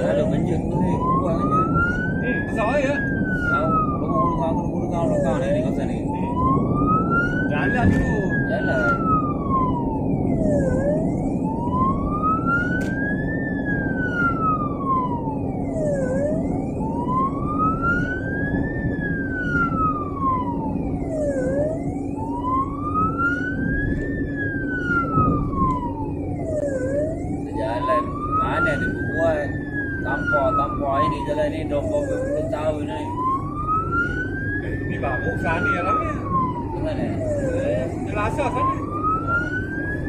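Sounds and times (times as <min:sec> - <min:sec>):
ambulance siren wailing: 0:00.0 - 0:40.0
engine and road noise: 0:00.0 - 0:40.0.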